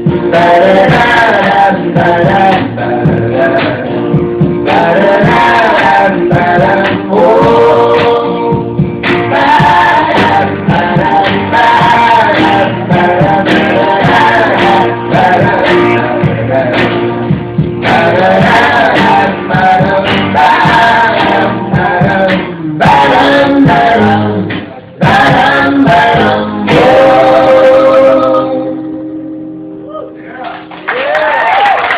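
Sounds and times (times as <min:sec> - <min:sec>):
voices singing together: 0:00.0 - 0:29.2
live folk band playing: 0:00.0 - 0:29.8.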